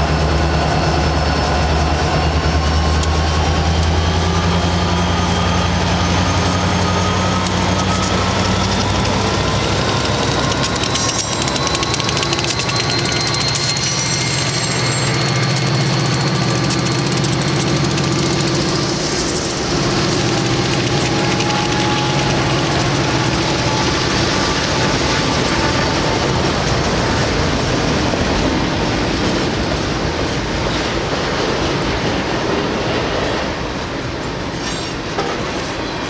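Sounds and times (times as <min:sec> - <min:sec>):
diesel locomotive engine drone: 0:00.0 - 0:36.0
freight cars rumbling on rails: 0:00.0 - 0:36.0.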